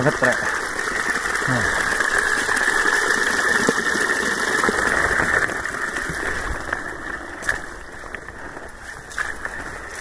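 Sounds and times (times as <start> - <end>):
rushing stream water: 0.0 - 10.0.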